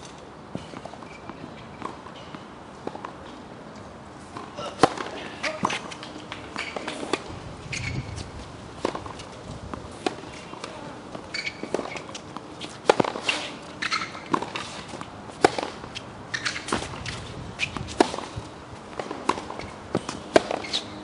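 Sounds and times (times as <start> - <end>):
sneakers squeaking: 0.0 - 21.0
racket hitting tennis ball: 1.7 - 3.2, 4.2 - 21.0.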